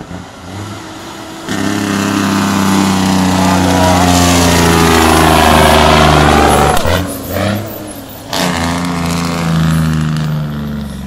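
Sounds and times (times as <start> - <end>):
diesel trucks passing: 0.0 - 11.0.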